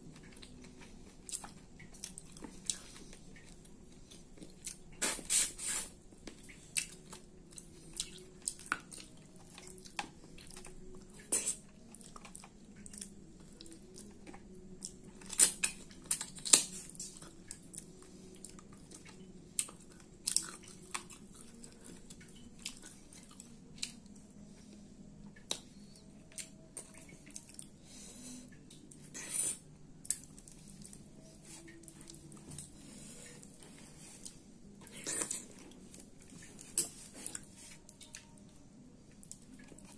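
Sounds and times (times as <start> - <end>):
chewing and wet mouth smacks: 0.1 - 24.2, 25.2 - 27.8, 28.5 - 32.8, 33.4 - 38.5.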